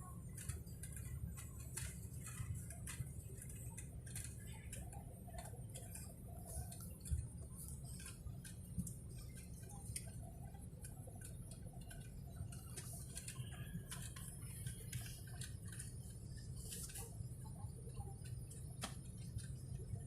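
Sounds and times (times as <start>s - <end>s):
faint irregular clicks: 0.0s - 20.0s.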